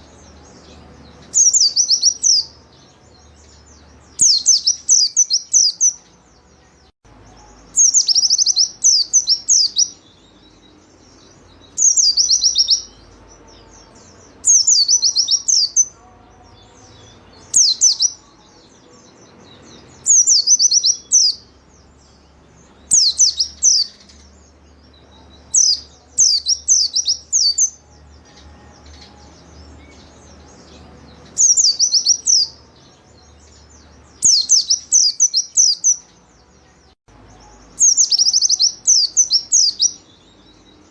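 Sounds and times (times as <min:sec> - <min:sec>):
white-eye bird singing: 0:00.0 - 0:40.9.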